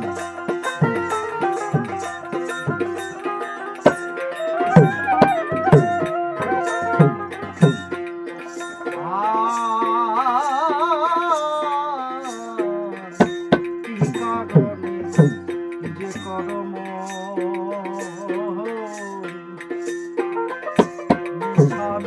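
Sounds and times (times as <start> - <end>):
pitch-bending percussion strokes: 0.0 - 11.6, 12.2 - 22.0.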